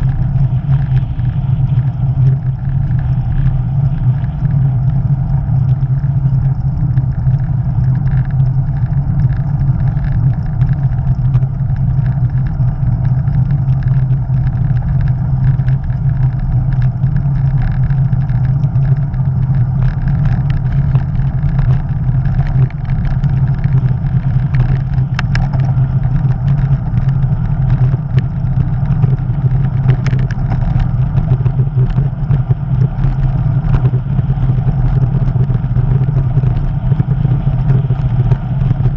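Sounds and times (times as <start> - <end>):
bicycle tyres on coarse tarmac: 0.0 - 38.9
light ticks: 0.0 - 38.9
wind buffeting microphone: 0.0 - 38.9.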